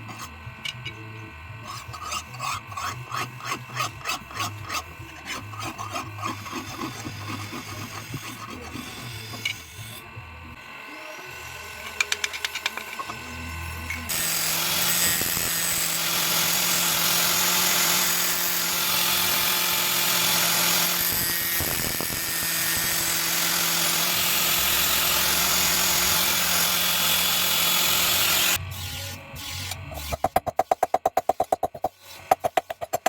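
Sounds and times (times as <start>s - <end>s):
power tool cutting steel: 0.0s - 30.4s.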